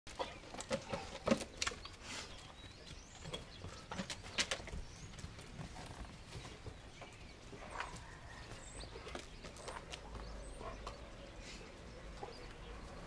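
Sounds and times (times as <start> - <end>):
puppy paws scuffing on dirt: 0.1 - 13.0.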